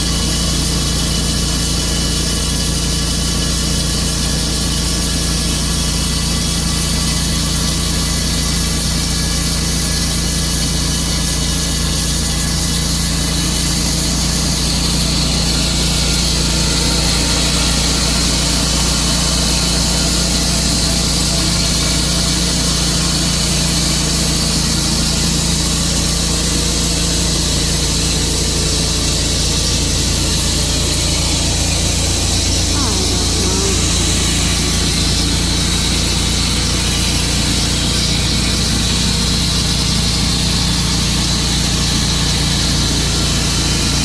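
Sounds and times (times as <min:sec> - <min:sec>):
sawmill engine running: 0:00.0 - 0:44.0.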